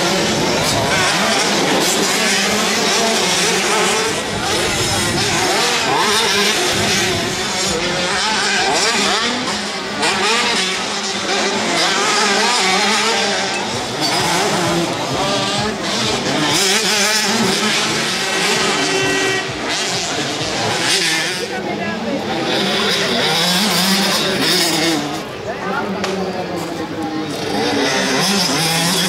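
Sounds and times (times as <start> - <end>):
motorcycles revving and accelerating: 0.0 - 29.0.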